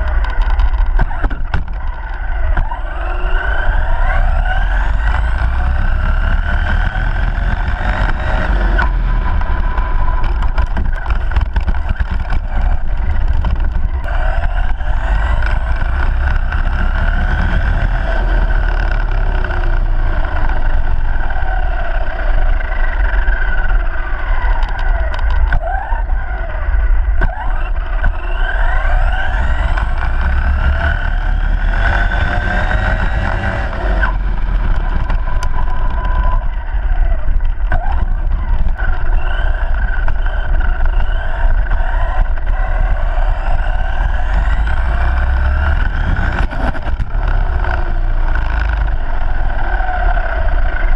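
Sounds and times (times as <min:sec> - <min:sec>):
rc truck electric motor whining: 0:00.0 - 0:50.9
steady low rumble: 0:00.0 - 0:50.9.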